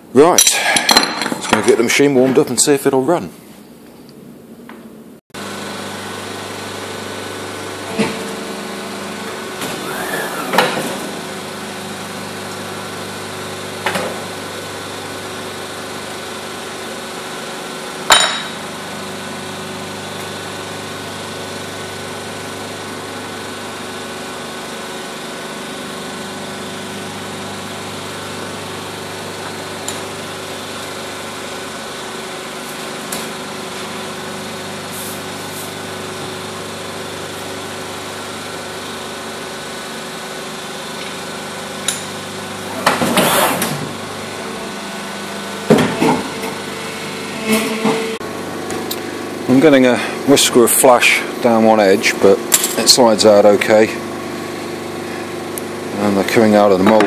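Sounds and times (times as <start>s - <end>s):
injection moulding machine humming: 5.4s - 52.7s.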